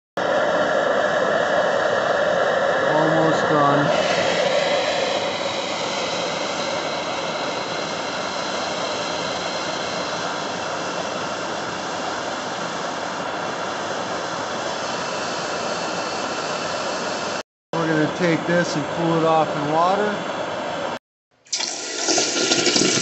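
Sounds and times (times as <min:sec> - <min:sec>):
propane torch flame hissing: 0:00.2 - 0:19.7.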